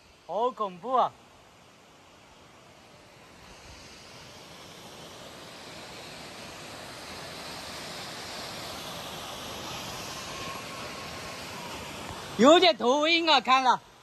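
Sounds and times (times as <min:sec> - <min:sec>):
steady rushing noise: 0:01.7 - 0:14.0.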